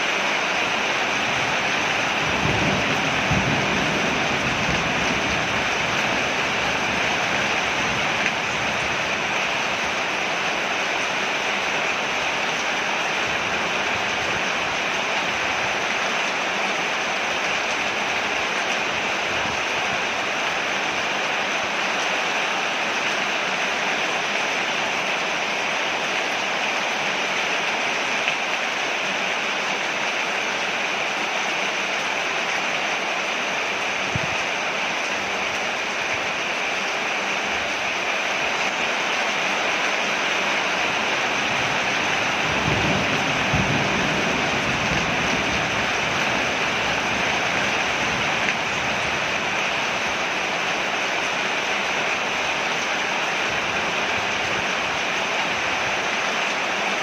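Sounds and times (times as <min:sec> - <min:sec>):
rain falling on a porch: 0:00.0 - 0:57.0.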